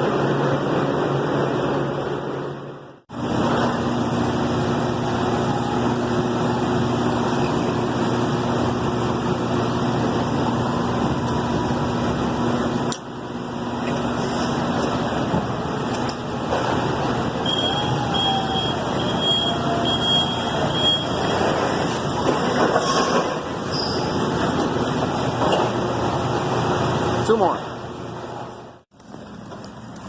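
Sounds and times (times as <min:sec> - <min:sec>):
fan and motor whirring: 0:00.0 - 0:30.0.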